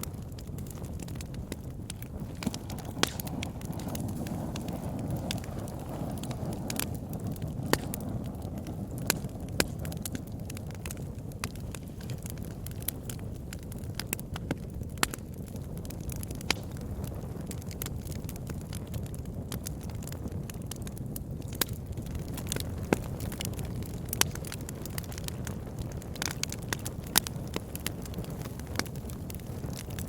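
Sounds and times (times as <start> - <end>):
campfire flames rushing: 0.0 - 30.0
wood crackling and popping: 0.0 - 30.0.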